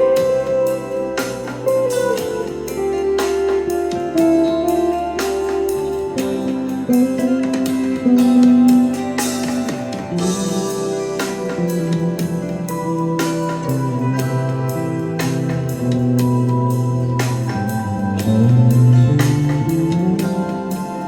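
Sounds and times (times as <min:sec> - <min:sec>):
guitar with bending notes: 0:00.0 - 0:21.0
steady beat: 0:00.0 - 0:21.0.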